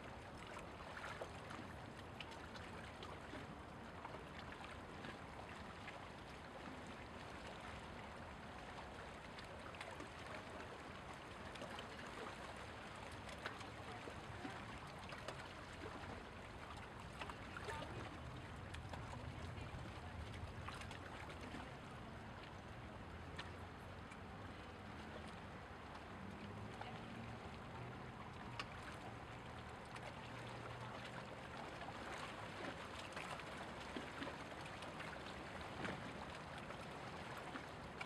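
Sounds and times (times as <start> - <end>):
water lapping at shoreline: 0.0 - 38.0.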